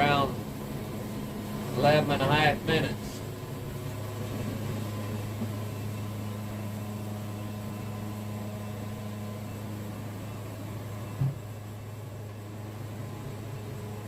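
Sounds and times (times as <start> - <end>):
sawmill engine idling: 0.0 - 14.0.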